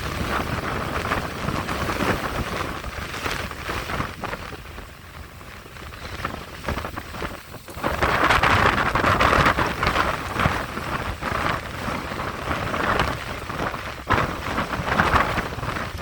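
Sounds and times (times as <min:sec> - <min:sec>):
rain: 0:00.0 - 0:16.0
wind gusts buffeting microphone: 0:00.0 - 0:16.0.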